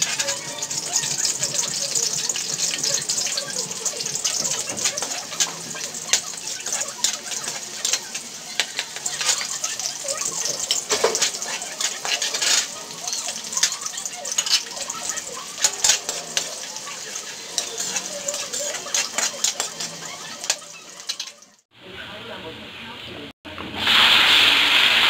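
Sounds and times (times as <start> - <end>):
metal ladle scraping a wok: 0.0 - 21.5
garlic and onion sizzling in oil: 0.0 - 22.9.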